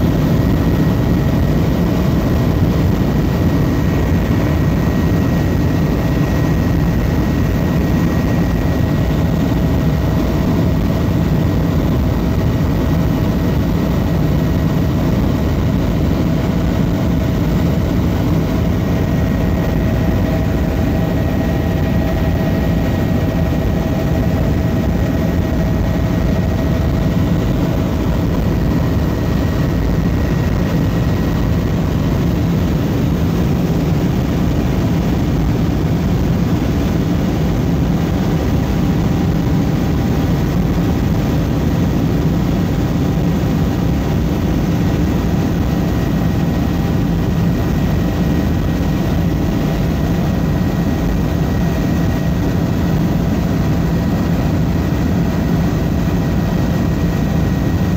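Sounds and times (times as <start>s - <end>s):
faint steady whine: 0.0s - 57.9s
helicopter rotor and engine rumble: 0.0s - 57.9s.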